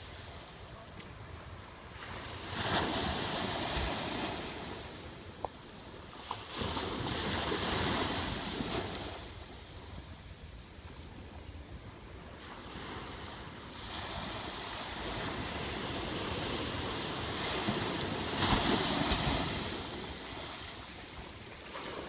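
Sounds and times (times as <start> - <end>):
small waves breaking on beach: 0.0 - 22.0.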